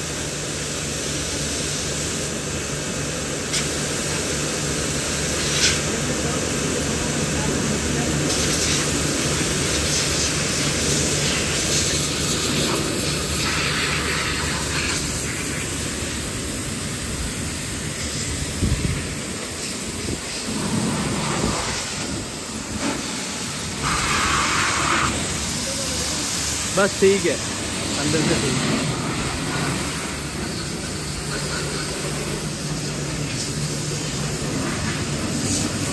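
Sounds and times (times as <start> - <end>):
pressure washer spray hissing: 0.0 - 35.9
steady low hum: 4.5 - 35.9.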